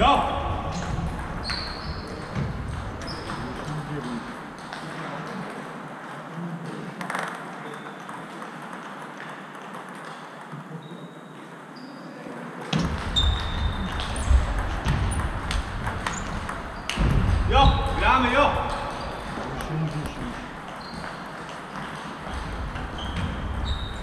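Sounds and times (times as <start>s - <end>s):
table tennis balls clicking: 0.8s - 10.8s, 12.6s - 17.2s, 18.5s - 24.0s.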